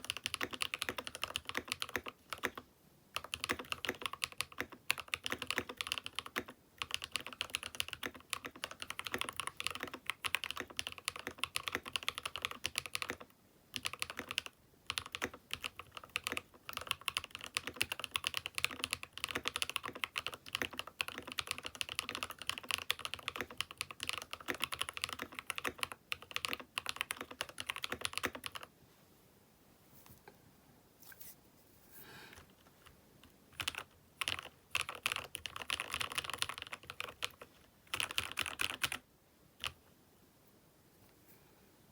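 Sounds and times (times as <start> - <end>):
mechanical keyboard typing: 0.0 - 28.7, 33.5 - 39.0.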